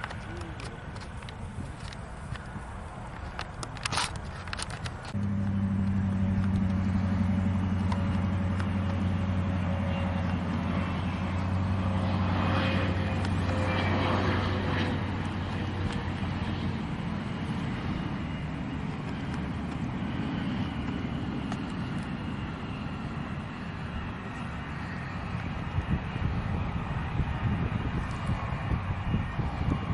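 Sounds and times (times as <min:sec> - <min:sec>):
aircraft engine hum: 0:00.0 - 0:29.9
faint falling engine whine: 0:00.0 - 0:29.9.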